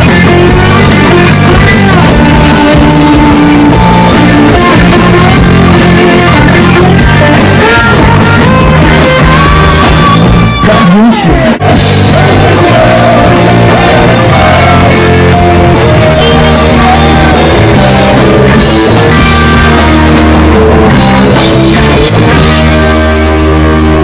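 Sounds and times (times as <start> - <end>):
bass guitar: 0.0 - 24.0
driving drum beat: 0.0 - 24.0
electric guitar: 0.0 - 24.0
rock band playing loudly: 0.0 - 24.0.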